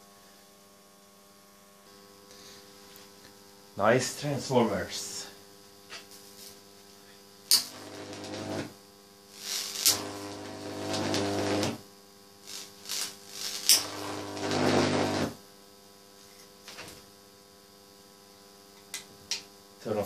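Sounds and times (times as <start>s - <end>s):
electric arc crack and buzz: 0.0s - 20.0s
faint transformer hum: 0.0s - 20.0s.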